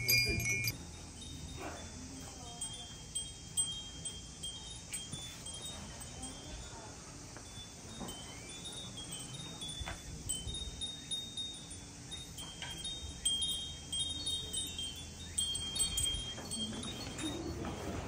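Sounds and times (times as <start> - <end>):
low background hum: 0.0 - 18.0
wind chimes tinkling: 0.0 - 18.0.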